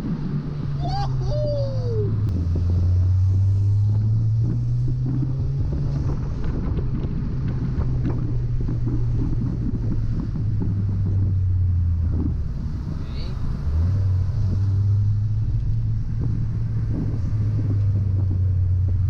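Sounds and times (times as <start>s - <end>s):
car engine droning: 0.0s - 19.0s
road and wind rush: 0.0s - 19.0s.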